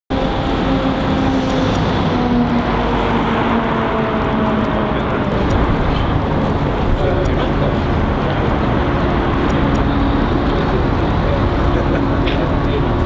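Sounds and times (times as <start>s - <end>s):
cars passing: 0.1s - 13.0s
engine hum: 0.1s - 13.0s.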